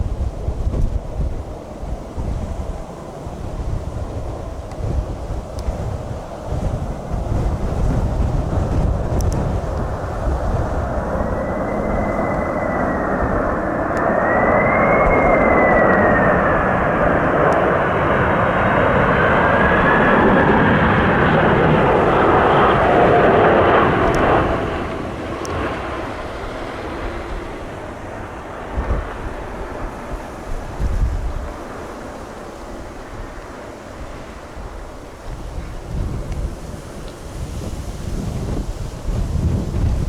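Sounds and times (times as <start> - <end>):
jet engine whine: 0.0 - 40.0
wind buffeting microphone: 0.0 - 40.0.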